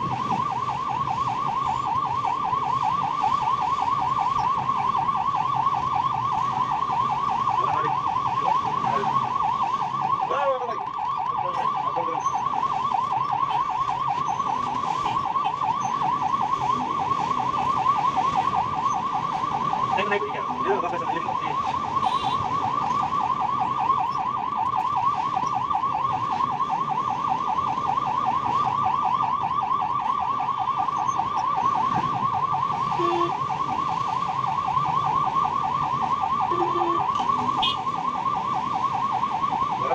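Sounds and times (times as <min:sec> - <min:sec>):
ambulance siren warbling: 0:00.0 - 0:39.9.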